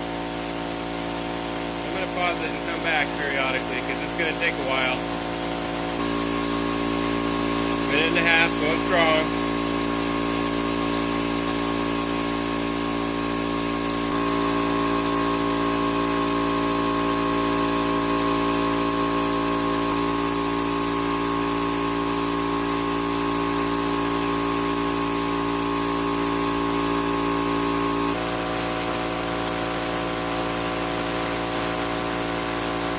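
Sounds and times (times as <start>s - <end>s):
air compressor drone and hiss: 0.0s - 32.9s.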